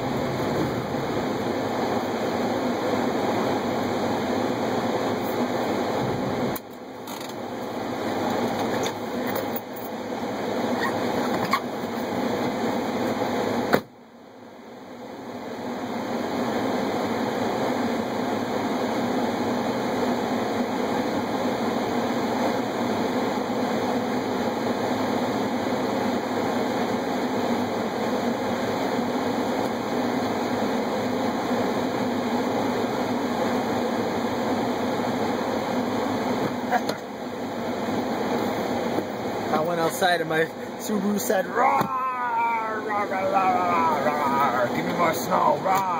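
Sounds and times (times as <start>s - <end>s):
car heater blower rushing: 0.0s - 45.9s.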